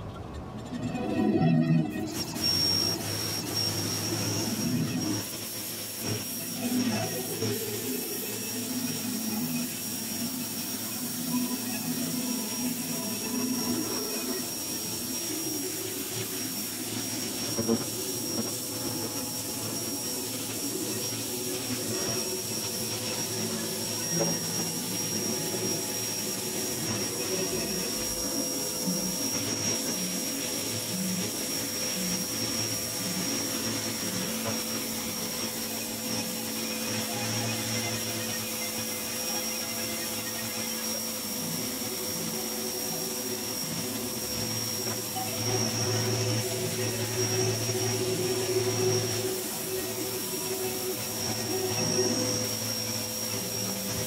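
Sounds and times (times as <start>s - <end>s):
constant high tone: 0.0s - 54.0s
water jet hissing on concrete: 2.2s - 54.0s
pressure washer motor humming: 2.3s - 54.0s.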